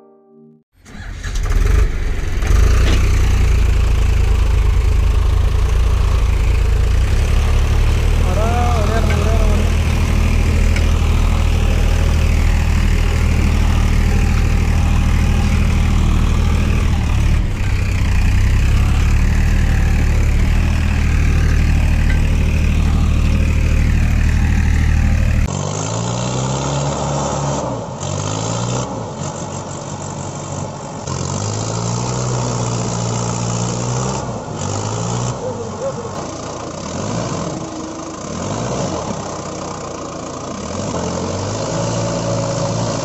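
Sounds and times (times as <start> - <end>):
engine revving: 0.8 - 43.0
engine running: 0.8 - 43.0.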